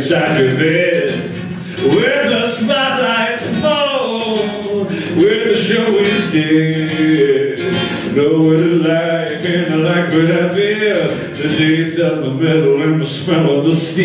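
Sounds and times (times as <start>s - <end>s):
acoustic guitar: 0.0s - 14.0s
man singing folk song: 0.0s - 14.0s.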